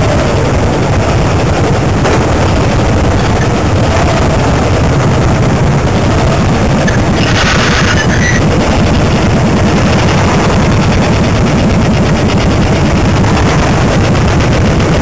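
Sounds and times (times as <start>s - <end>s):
motorcycle engines running: 0.0s - 15.0s
wind rumble on microphone: 0.0s - 15.0s.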